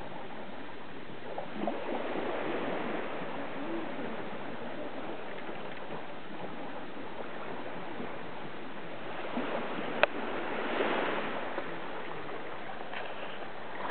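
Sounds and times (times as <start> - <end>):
sea waves washing on shore: 0.0 - 13.9.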